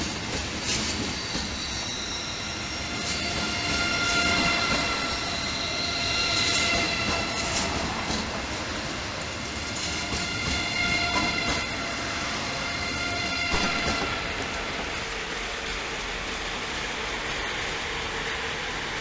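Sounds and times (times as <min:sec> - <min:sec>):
train wheel squeal: 0:00.0 - 0:16.3
rail clicks: 0:00.0 - 0:19.0
train rolling noise: 0:00.0 - 0:19.0.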